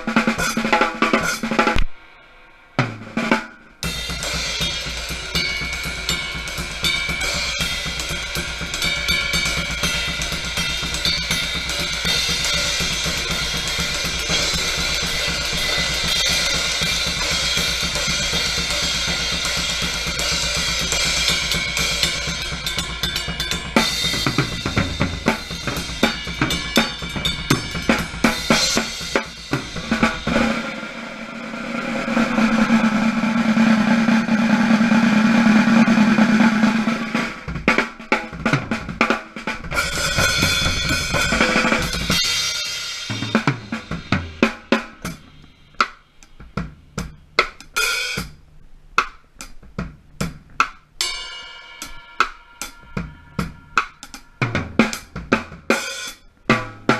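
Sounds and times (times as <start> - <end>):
drum kit playing: 0.0 - 2.0, 2.8 - 56.9.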